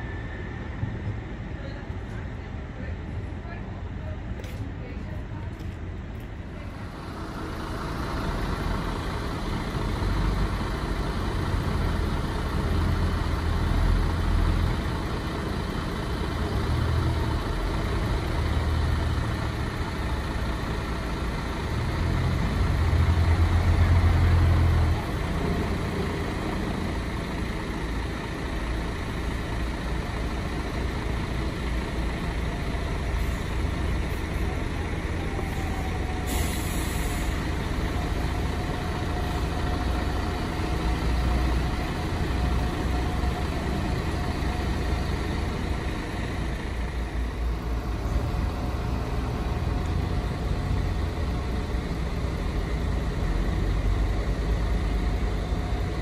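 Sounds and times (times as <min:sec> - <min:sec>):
bus engines rumbling: 0:00.0 - 0:56.0.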